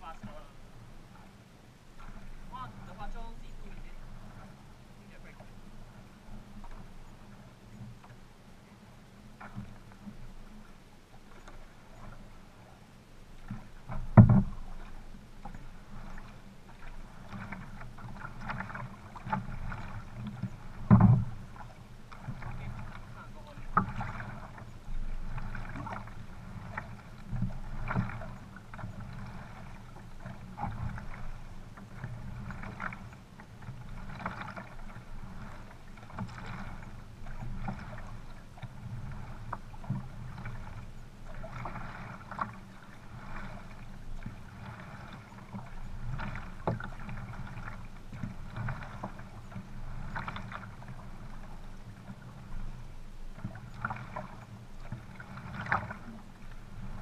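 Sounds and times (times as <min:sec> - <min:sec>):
paddle blades splashing: 0:00.0 - 0:57.0
water rushing along hulls: 0:00.0 - 0:57.0.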